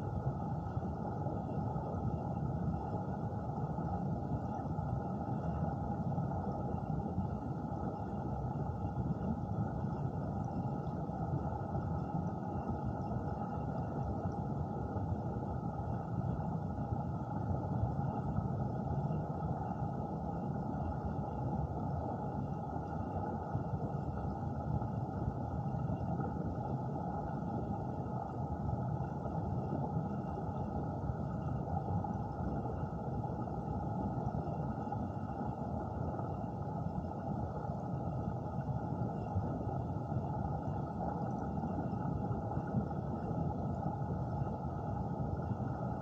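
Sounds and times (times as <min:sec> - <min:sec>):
muffled underwater water rush: 0:00.0 - 0:46.0.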